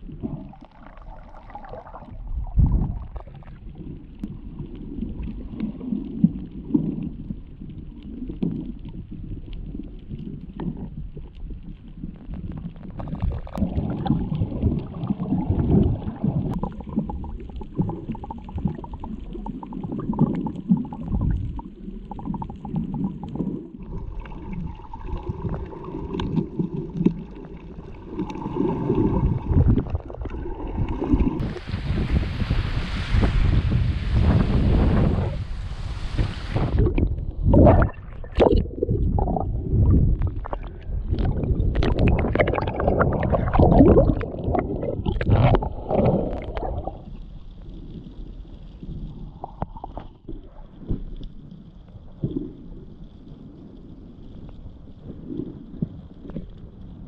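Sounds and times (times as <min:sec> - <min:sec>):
muffled underwater gurgling: 0:00.0 - 0:57.0.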